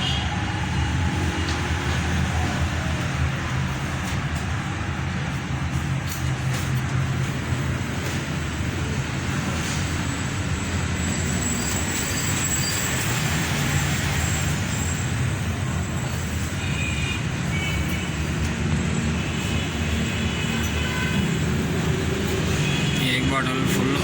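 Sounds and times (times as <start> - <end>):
traffic engine rumble: 0.0 - 24.0.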